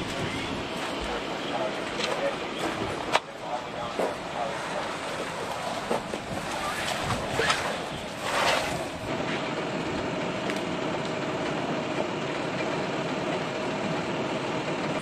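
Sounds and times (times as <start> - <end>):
fire engine humming: 0.0 - 15.0
large fire burning: 0.0 - 15.0.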